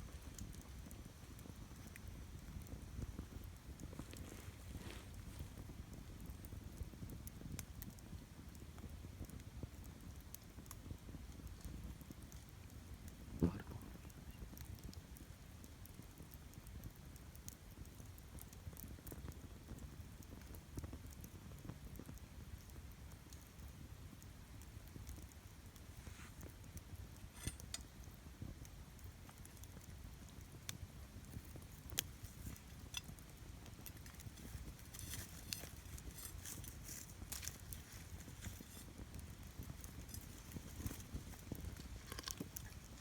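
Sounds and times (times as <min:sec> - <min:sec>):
campfire crackling and popping: 0:00.0 - 0:43.0
low steady fire rumble: 0:00.0 - 0:43.0.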